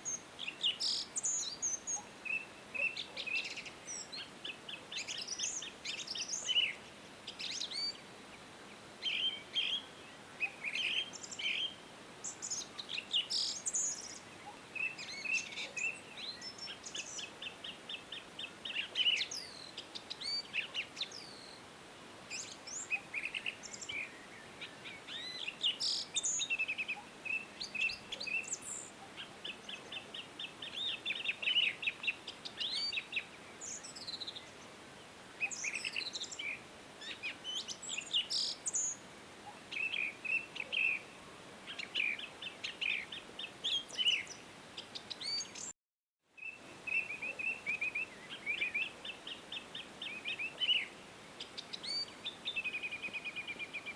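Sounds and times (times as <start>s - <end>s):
faint steady hiss: 0.0s - 53.9s.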